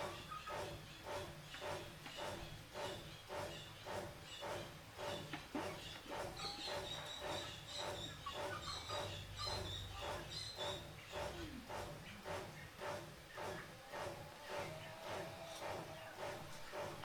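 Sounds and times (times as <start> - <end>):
filing steel with scraping rasp: 0.0 - 17.0.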